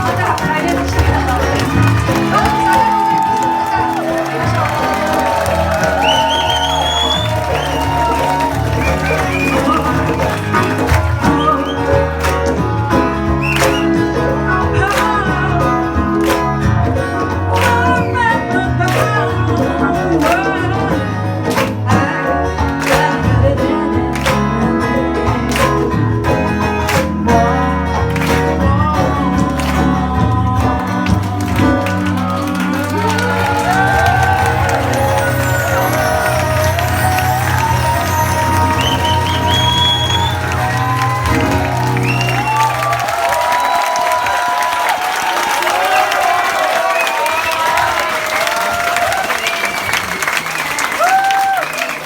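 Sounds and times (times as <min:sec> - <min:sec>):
person singing: 0:00.0 - 0:44.4
steady drum beat: 0:00.0 - 0:45.6
live band music: 0:00.0 - 0:46.1.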